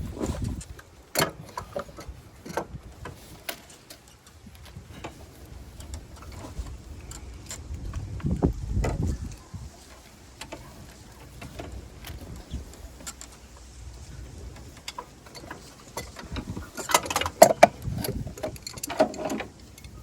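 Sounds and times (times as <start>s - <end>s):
low rumble of handling: 0.0s - 20.0s
hand tools clicking on metal: 0.2s - 20.0s.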